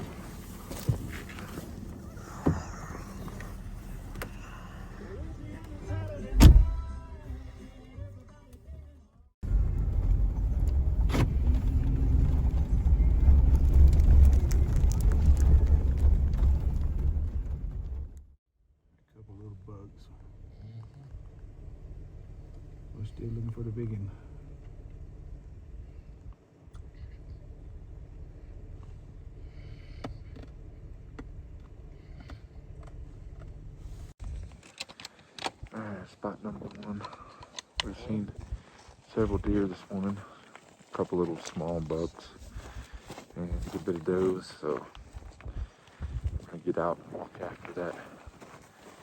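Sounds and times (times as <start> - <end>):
vehicle engine and road noise: 0.0 - 18.4, 19.2 - 48.3.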